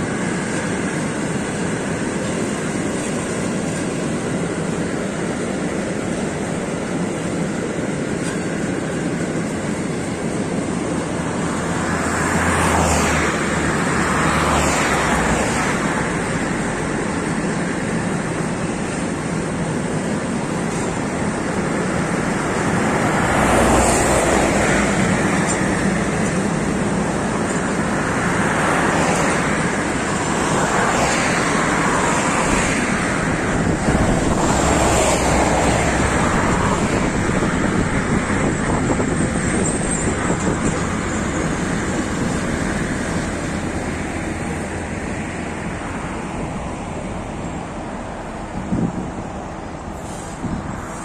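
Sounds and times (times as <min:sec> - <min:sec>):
freight train wheels rumbling on rail: 0:00.0 - 0:51.0.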